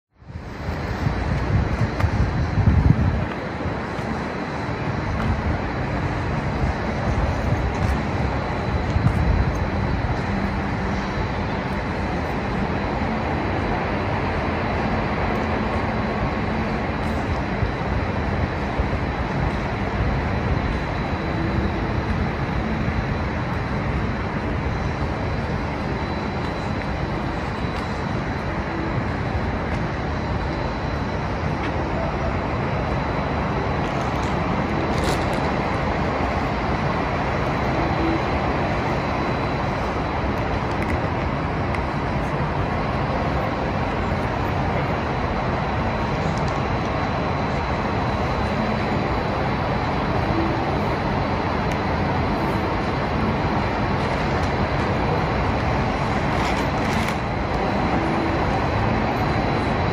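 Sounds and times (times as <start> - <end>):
road traffic rumble: 0.1 - 59.9.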